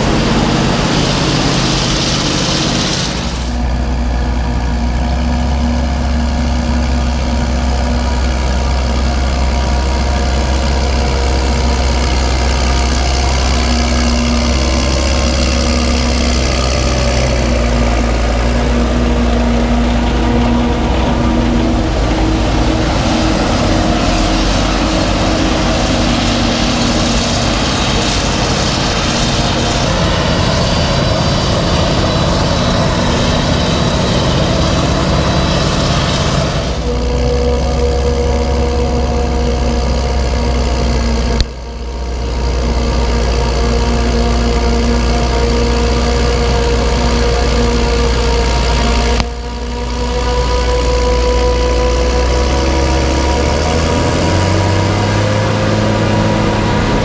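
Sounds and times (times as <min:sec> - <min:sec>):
farm machinery engine drone: 0:00.0 - 0:57.0.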